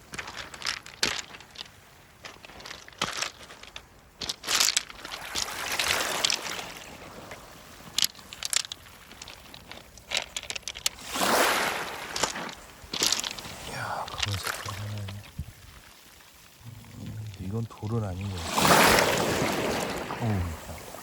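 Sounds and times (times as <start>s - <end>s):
pebbles crunching underfoot: 0.0s - 20.5s.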